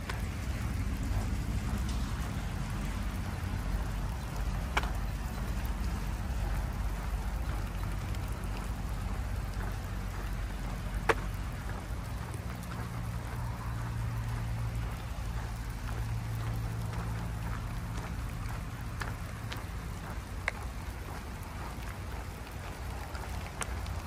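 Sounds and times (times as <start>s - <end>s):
tyres hissing on asphalt: 0.0s - 24.0s
wind rumbling on microphone: 0.0s - 24.0s.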